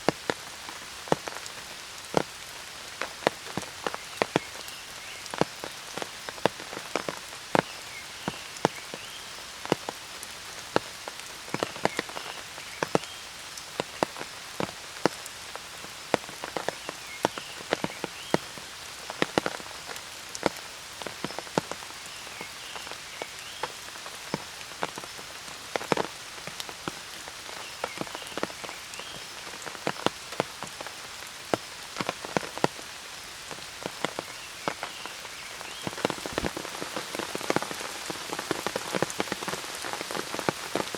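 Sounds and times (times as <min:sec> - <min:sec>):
loud raindrops striking close: 0:00.0 - 0:40.9
rain falling: 0:00.0 - 0:40.9.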